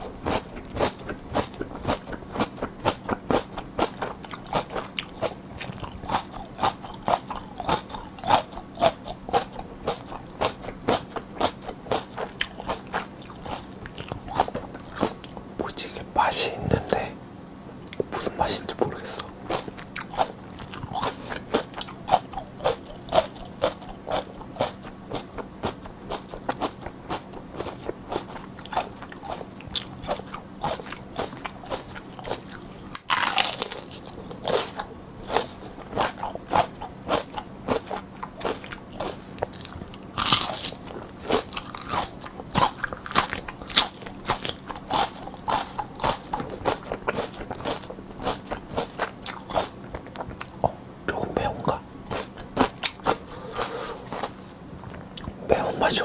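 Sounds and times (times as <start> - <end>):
crunchy chewing of peppers: 0.0 - 56.0.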